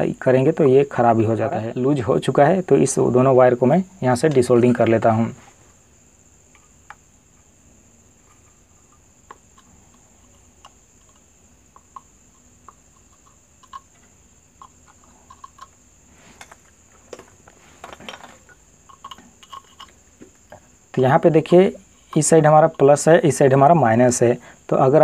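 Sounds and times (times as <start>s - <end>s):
faint high-pitched whine: 0.0s - 25.0s.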